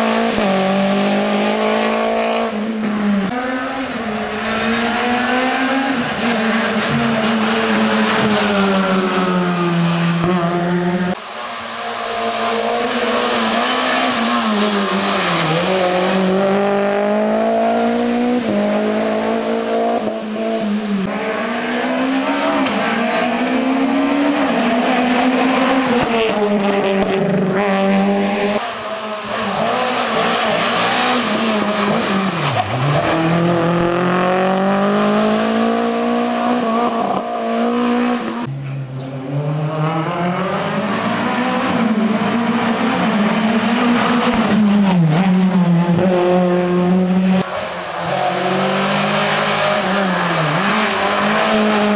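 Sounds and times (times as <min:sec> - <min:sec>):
rally car engines at full throttle: 0:00.0 - 0:51.9.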